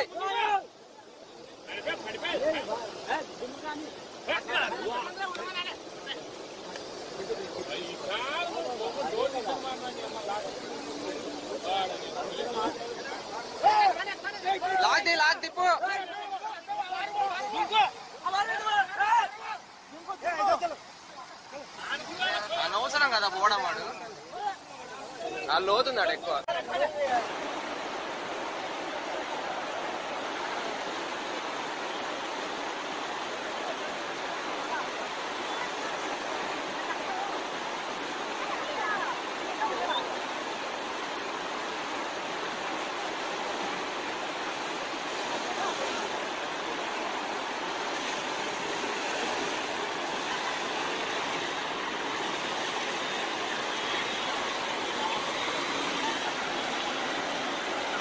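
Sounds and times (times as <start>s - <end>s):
flooded river rushing: 0.0s - 58.0s.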